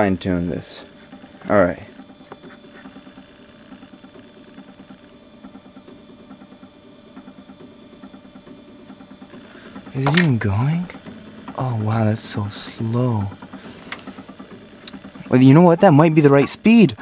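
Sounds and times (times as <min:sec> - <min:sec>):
stepper motors stepping slowly: 0:00.0 - 0:17.0.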